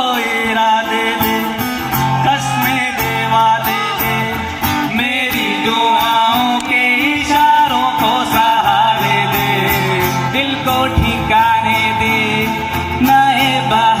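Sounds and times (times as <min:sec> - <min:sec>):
song instrumental backing: 0:00.3 - 0:14.0.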